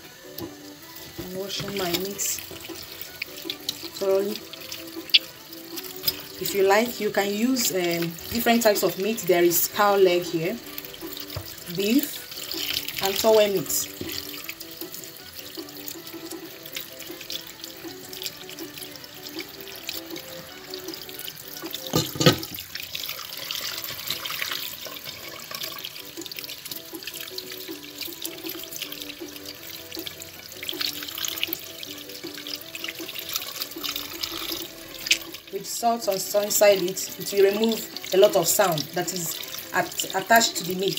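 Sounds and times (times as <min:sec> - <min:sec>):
background music: 0:00.0 - 0:40.9
tap water running into sink: 0:00.0 - 0:40.9.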